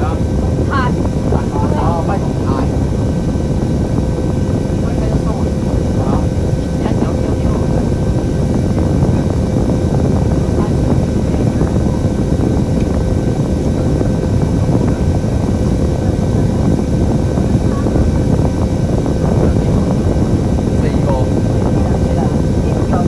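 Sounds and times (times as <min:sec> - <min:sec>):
faint constant whine: 0:00.0 - 0:23.0.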